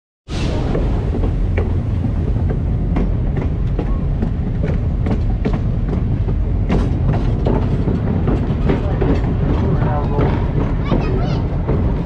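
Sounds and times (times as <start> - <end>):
train rumbling on track: 0.3 - 12.0
wheels clicking on rails: 0.8 - 12.0.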